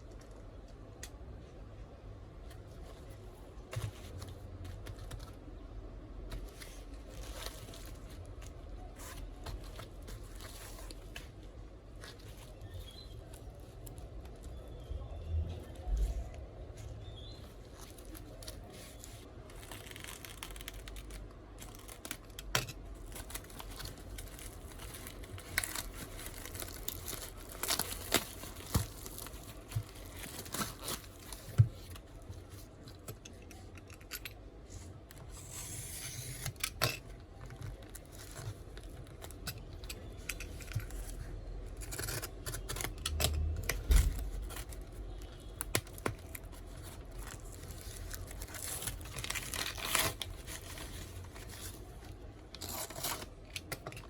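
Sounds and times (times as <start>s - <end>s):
wrapping tearing and crinkling: 6.3s - 14.7s, 15.7s - 33.1s, 35.2s - 54.0s.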